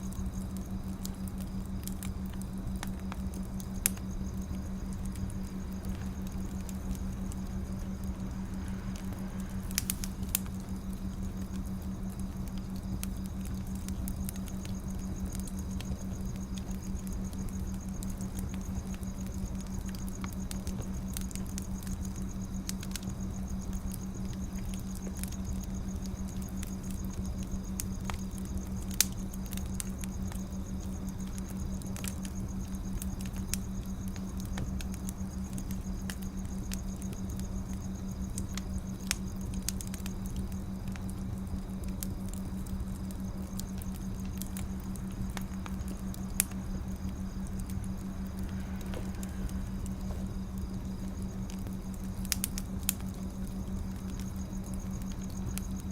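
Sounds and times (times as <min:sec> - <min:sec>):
low hum and hiss: 0:00.0 - 0:55.9
wood fire crackling: 0:00.0 - 0:55.9.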